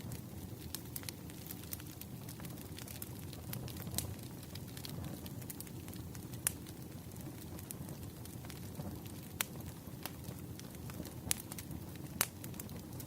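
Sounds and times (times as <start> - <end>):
burning logs crackling and popping: 0.0 - 13.0
flames rumbling: 0.0 - 13.0.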